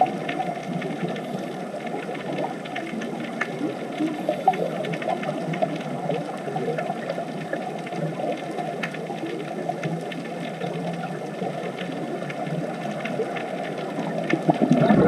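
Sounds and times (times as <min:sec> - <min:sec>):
faint clicks and crackles: 0:00.0 - 0:15.0
muffled underwater water rush: 0:00.0 - 0:15.0.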